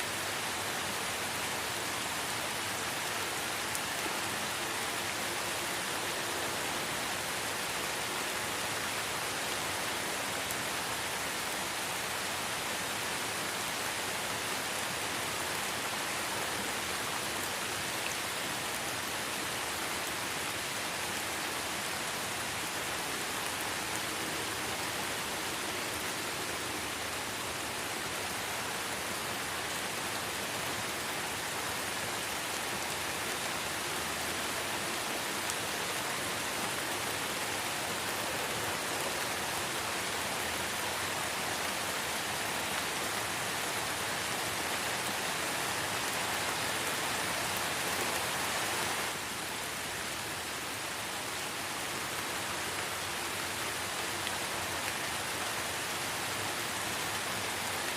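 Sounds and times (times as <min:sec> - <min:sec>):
light rain on leaves: 0:00.0 - 0:57.9.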